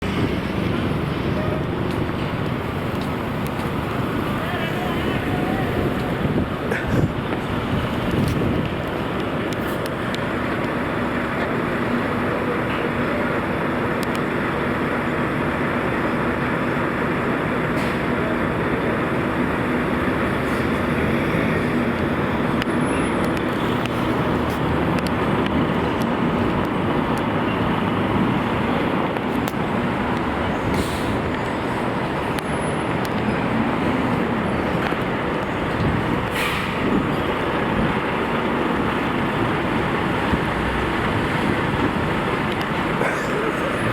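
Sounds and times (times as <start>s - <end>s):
street traffic: 0.0s - 43.9s.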